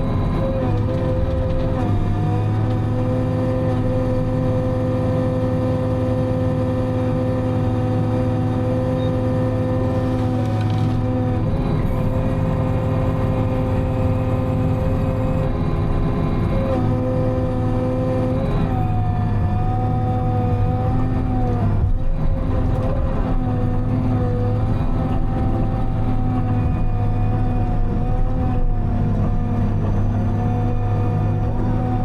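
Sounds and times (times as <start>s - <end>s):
harvester engine running: 0.0s - 32.0s.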